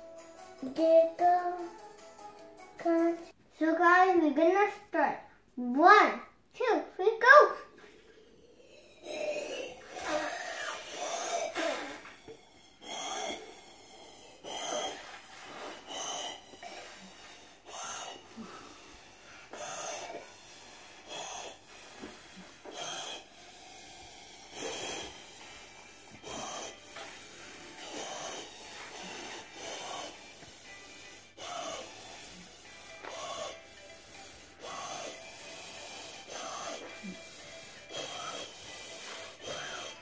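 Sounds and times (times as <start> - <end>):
children blowing up balloons: 7.6 - 40.0
children gasping: 7.8 - 40.0.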